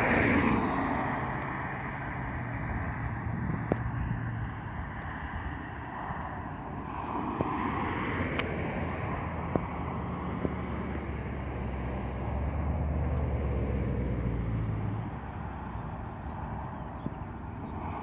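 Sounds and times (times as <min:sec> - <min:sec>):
vehicles driving past: 0:00.0 - 0:18.0.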